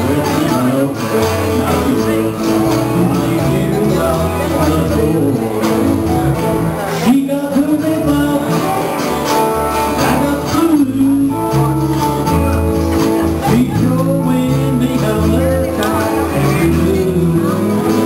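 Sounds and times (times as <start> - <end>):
bass line: 0.0 - 18.0
electric guitar: 0.0 - 18.0
strummed acoustic guitars: 0.0 - 18.0.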